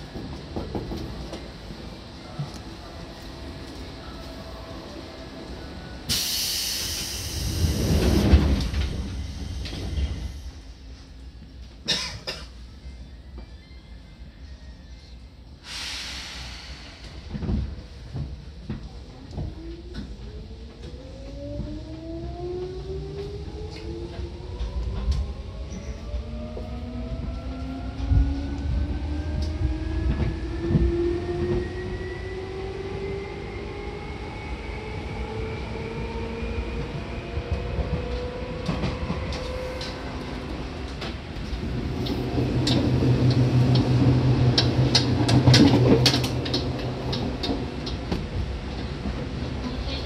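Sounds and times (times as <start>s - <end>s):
train running noise: 0.0s - 14.8s, 15.6s - 50.0s.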